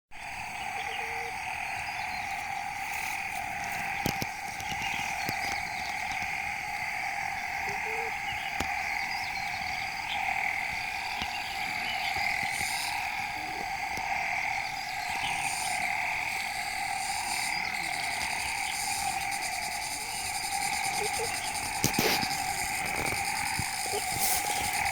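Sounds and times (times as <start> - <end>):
frogs chorus: 0.1 - 24.9.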